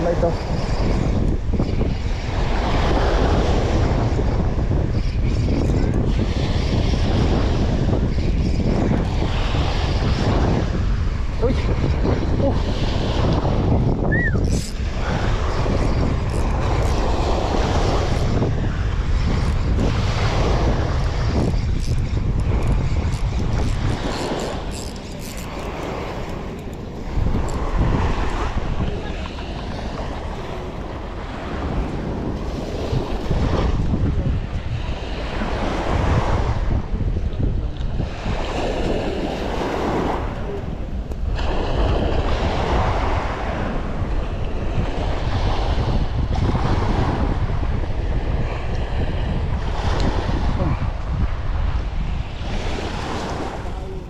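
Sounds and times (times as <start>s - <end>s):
wind buffeting microphone: 0.0s - 54.0s
sea waves washing: 6.0s - 54.0s.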